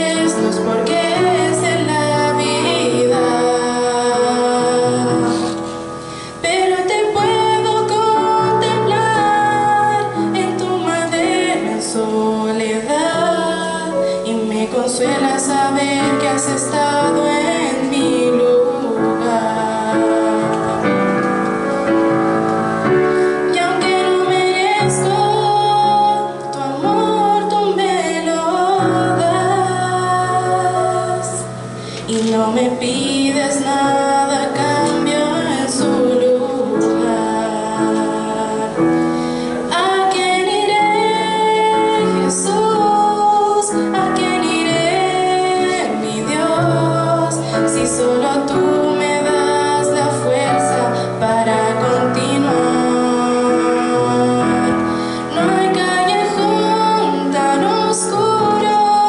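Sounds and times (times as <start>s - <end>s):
piano: 0.0s - 59.0s
woman singing a hymn: 0.0s - 59.0s.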